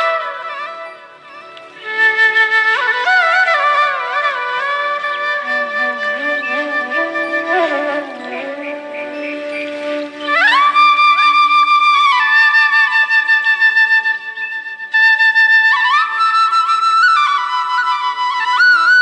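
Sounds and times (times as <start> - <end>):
flute playing slow melody: 0.0 - 19.0.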